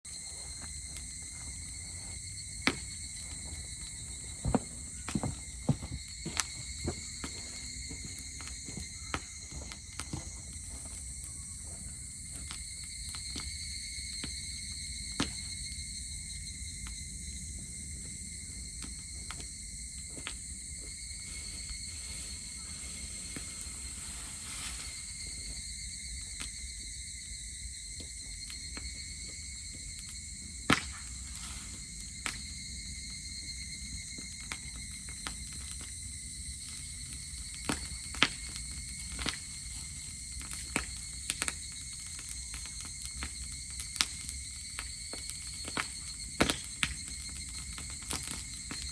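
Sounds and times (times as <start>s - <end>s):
campfire crackling and popping: 0.1s - 48.9s
insects trilling: 0.1s - 48.9s.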